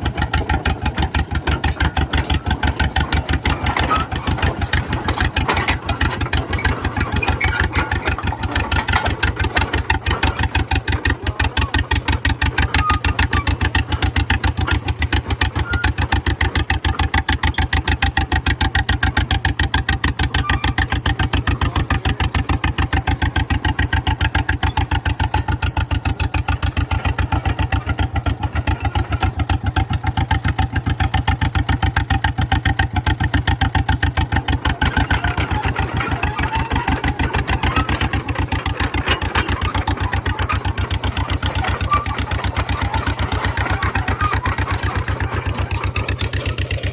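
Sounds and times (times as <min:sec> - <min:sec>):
dozer engine idling: 0:00.0 - 0:46.9.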